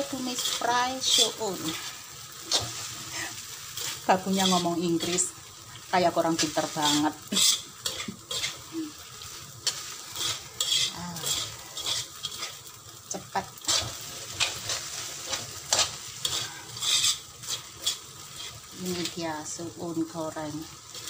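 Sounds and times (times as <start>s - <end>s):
metal spatula scraping a wok: 0.0s - 12.8s, 13.5s - 21.0s
food sizzling: 0.0s - 21.0s.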